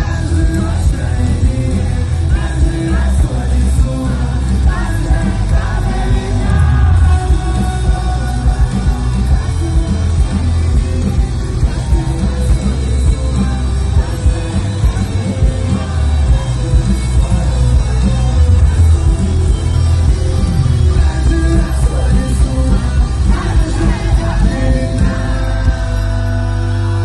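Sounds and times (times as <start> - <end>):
rock music with singer: 0.0 - 27.0.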